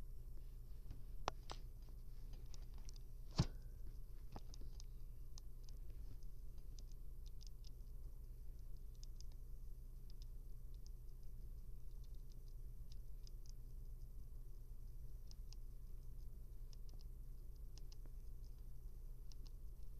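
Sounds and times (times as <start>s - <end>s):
low steady hum: 0.0s - 19.9s
rodent nibbling corn chip: 1.6s - 19.9s.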